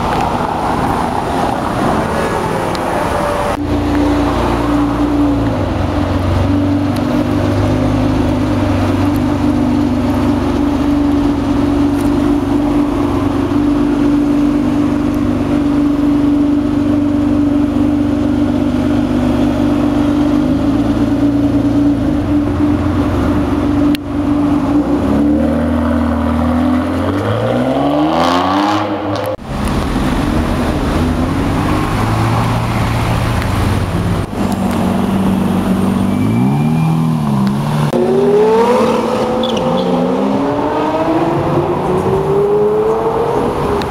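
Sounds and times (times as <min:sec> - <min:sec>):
car accelerating hard: 0:00.0 - 0:43.9
supercar engines revving: 0:00.0 - 0:43.9.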